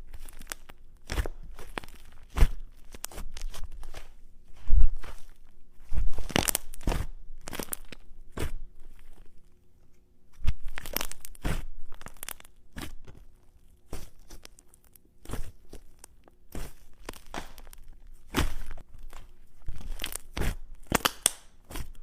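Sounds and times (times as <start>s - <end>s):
slime crackling squishes: 0.0s - 9.6s, 10.3s - 22.0s.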